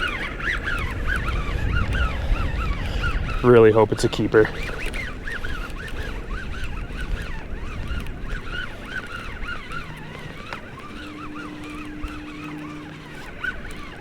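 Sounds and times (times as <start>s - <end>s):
fishing reel whining: 0.0s - 14.0s
water noise: 0.0s - 14.0s
wind: 0.0s - 14.0s.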